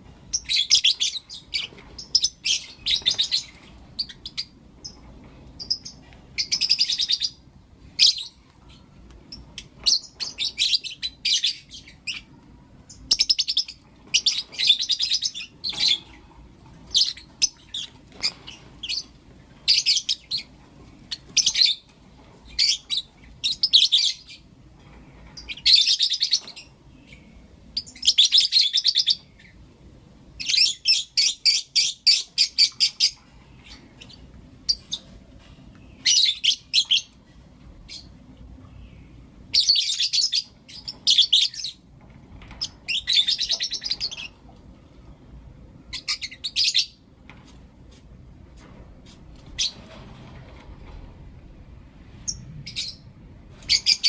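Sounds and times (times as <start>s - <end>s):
lovebirds chirping: 0.2s - 24.5s, 25.1s - 29.7s, 30.4s - 41.9s, 42.5s - 44.6s, 45.8s - 47.1s, 52.2s - 54.0s.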